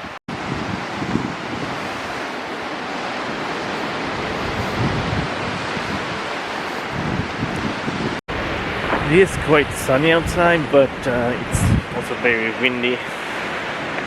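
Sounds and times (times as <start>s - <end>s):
strong wind on microphone: 0.0s - 12.2s.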